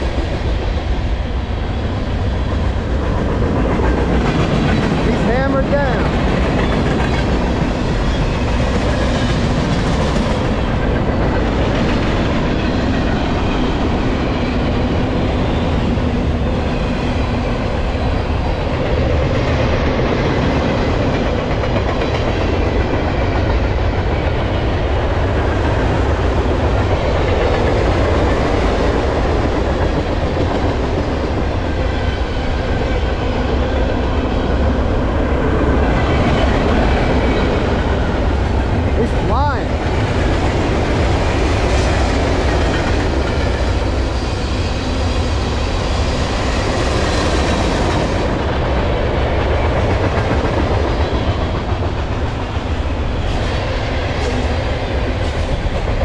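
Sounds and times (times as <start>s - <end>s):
steel wheels on rail: 0.0s - 56.0s.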